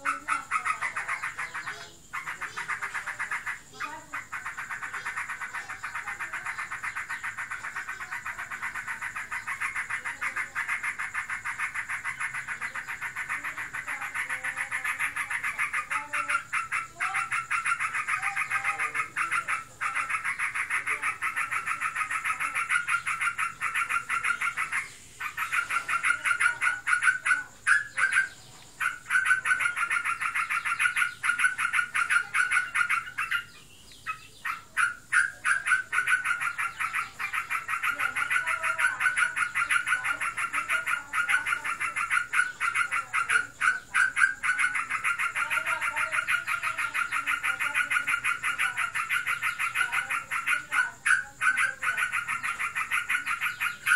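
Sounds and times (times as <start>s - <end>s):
bird buzzing chatter: 0.0s - 53.9s.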